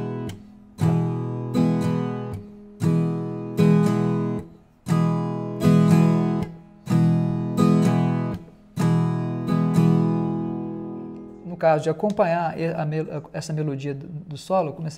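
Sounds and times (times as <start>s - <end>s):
guitar strumming: 0.0s - 13.2s.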